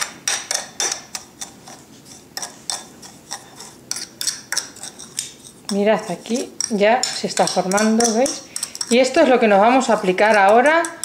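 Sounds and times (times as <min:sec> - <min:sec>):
metal spoon scraping ceramic saucer: 0:00.0 - 0:11.0.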